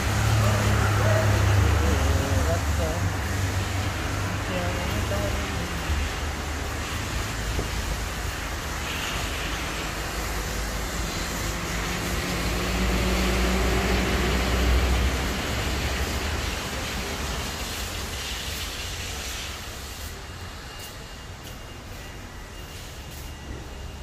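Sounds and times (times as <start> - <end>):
hiss: 0.0 - 23.8.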